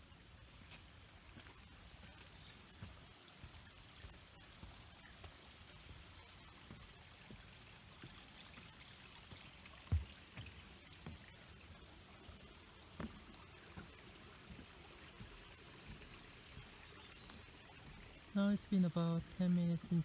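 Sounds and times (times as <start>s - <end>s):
creek water rushing: 0.0s - 20.0s
footsteps on forest trail: 0.0s - 20.0s
footsteps on wooden footbridge: 0.4s - 19.4s.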